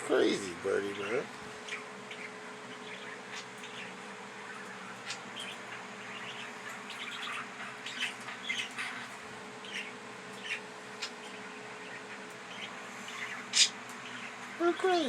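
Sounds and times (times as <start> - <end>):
budgerigars chirping: 0.0 - 15.0
faint steady hum: 0.0 - 15.0.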